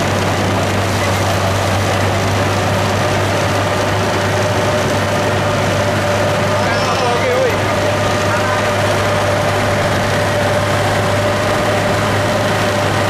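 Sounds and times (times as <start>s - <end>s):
farm machine engine humming: 0.0s - 13.0s.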